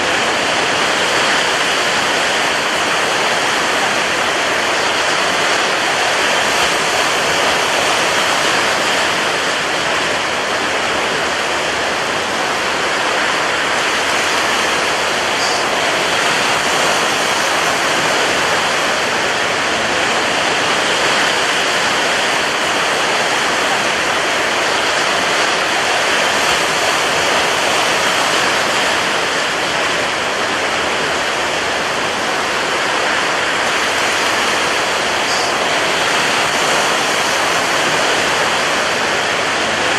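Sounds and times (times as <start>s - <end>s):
rough sea roar: 0.0s - 39.9s
strong wind: 0.0s - 39.9s.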